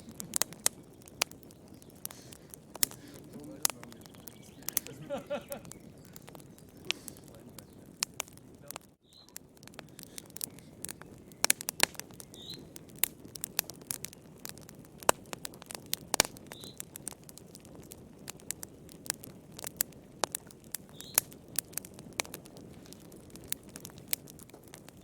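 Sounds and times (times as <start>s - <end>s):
fireplace fire crackling and popping: 0.0s - 25.0s.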